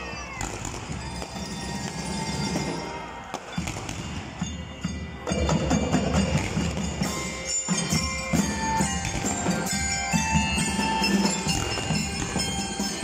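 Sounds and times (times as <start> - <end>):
band drums: 0.0 - 13.0
mallet-struck bells: 0.7 - 13.0.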